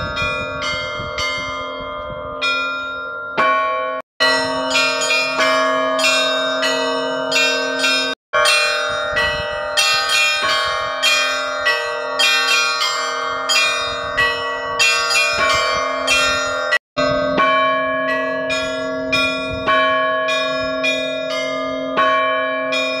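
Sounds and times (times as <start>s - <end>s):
large bell ringing: 0.0s - 23.0s
small church bells ringing: 0.0s - 23.0s.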